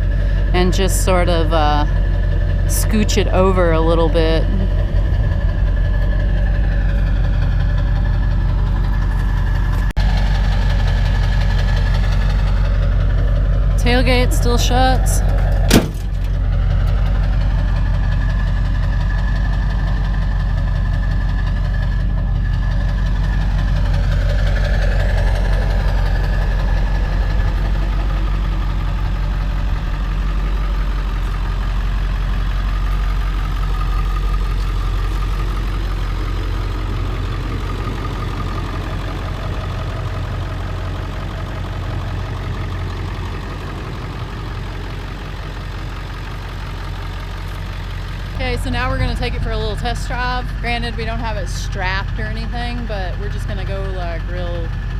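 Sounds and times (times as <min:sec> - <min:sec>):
pickup truck engine idling: 0:00.0 - 0:54.9.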